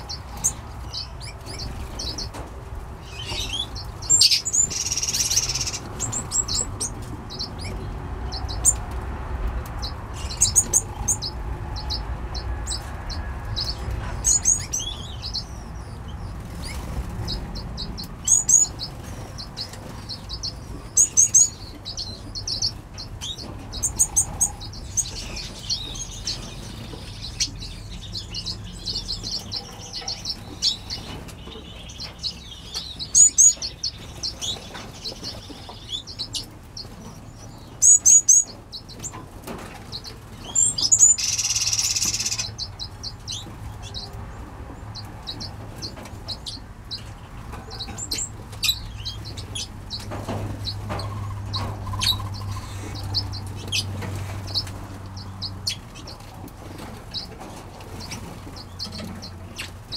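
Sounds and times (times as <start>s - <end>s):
finches chirping: 0.0s - 2.4s, 3.0s - 8.8s, 9.8s - 39.2s, 39.9s - 44.2s, 44.9s - 56.2s.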